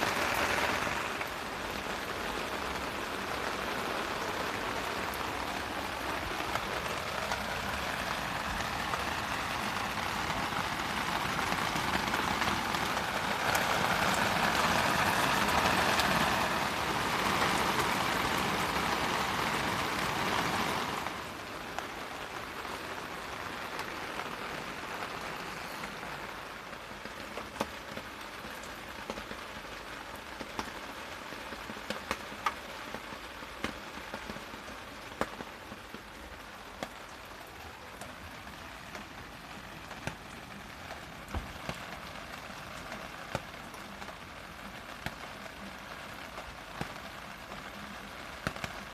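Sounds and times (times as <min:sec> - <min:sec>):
heavy rain hiss: 0:00.0 - 0:48.9
raindrops ticking: 0:00.0 - 0:48.9.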